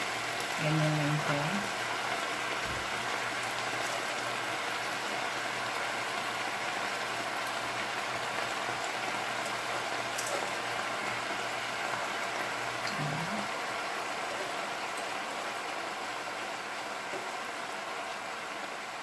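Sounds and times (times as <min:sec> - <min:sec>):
frying pan sizzling: 0:00.0 - 0:19.0.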